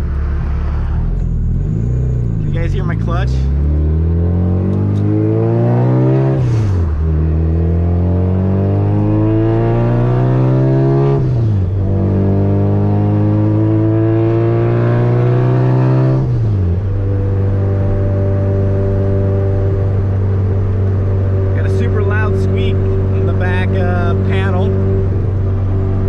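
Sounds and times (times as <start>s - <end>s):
car engine accelerating through gears: 0.0s - 26.0s.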